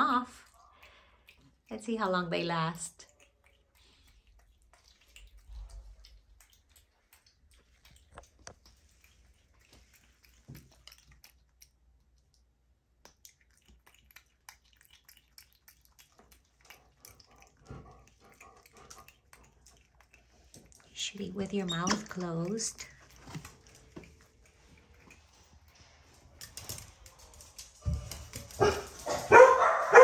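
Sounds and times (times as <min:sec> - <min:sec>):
monkey chewing nuts: 0:02.8 - 0:29.3.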